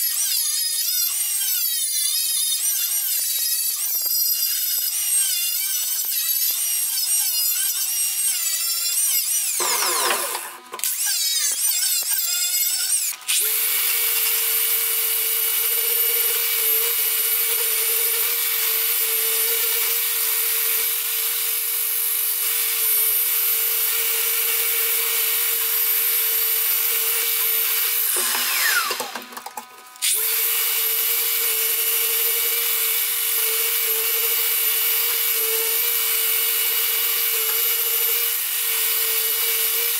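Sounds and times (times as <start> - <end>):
angle grinder on steel: 0.0 - 39.9
orbital sander on metal: 0.0 - 39.9.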